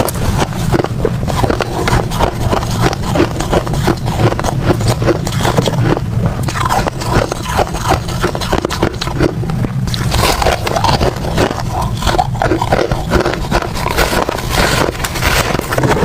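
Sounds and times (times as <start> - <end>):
chewing and crunching ice: 0.0 - 16.0.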